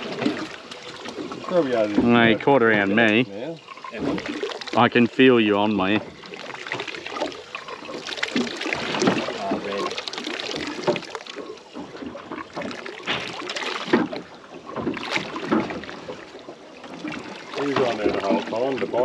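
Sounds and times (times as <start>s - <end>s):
fish splashing: 0.0s - 19.0s
water sloshing against boat hull: 0.0s - 19.0s.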